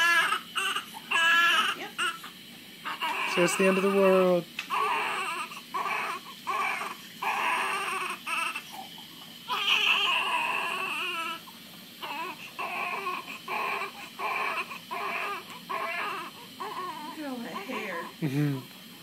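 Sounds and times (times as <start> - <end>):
newborn baby crying: 0.0 - 8.8, 9.5 - 18.2.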